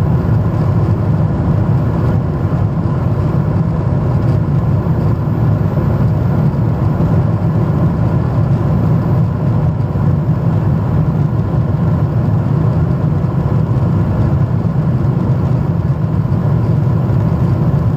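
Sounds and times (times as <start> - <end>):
faint steady whine: 0.0 - 17.9
jet engine and airflow drone: 0.0 - 17.9.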